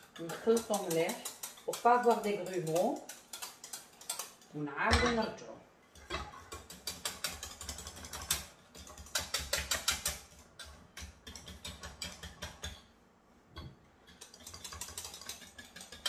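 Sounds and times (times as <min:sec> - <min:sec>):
whisk clicking against saucepan: 0:00.0 - 0:05.3, 0:05.9 - 0:12.9, 0:13.6 - 0:16.0.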